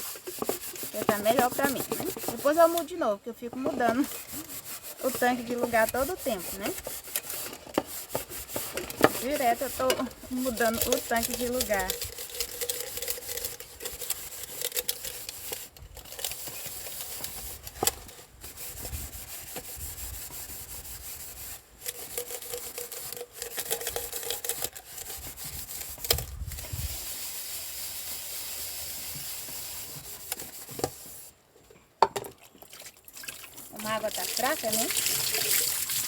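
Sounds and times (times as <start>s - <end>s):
sponge scrubbing dishes: 0.0s - 31.3s, 33.2s - 36.0s.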